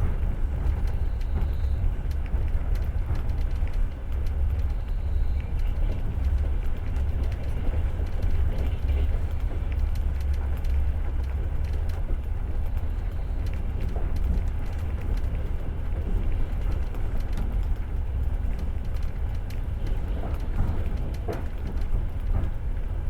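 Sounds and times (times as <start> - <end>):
light clicks and rattles: 0.0 - 23.0
train rumbling inside carriage: 0.0 - 23.0.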